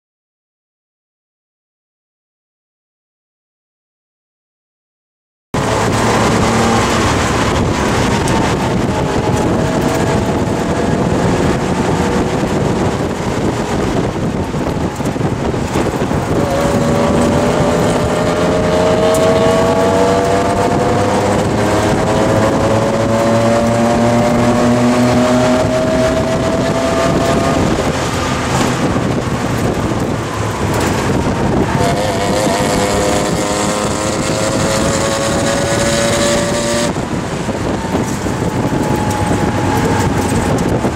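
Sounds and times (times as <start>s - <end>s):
car engine accelerating: 5.6s - 40.9s
wind and road noise: 5.6s - 40.9s.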